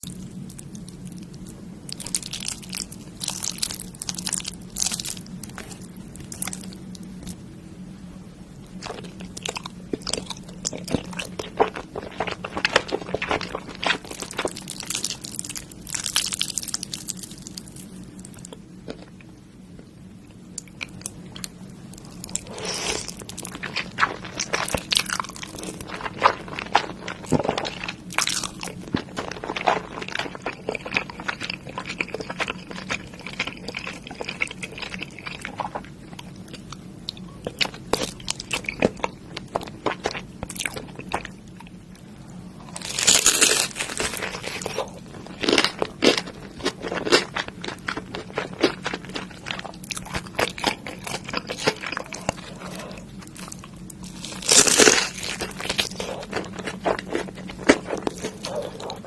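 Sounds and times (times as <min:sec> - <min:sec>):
person chewing crunchy food: 0:00.0 - 0:07.4, 0:08.6 - 0:19.3, 0:20.4 - 0:59.0.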